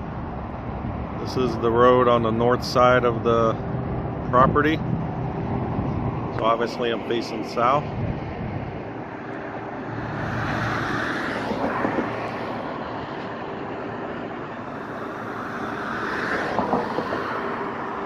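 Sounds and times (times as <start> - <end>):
hum of passing cars: 0.0 - 18.0
vehicles passing by: 0.0 - 18.0.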